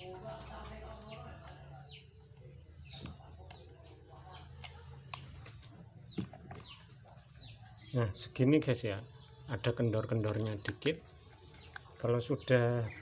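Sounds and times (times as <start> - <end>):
small bird chirping: 0.9 - 13.0.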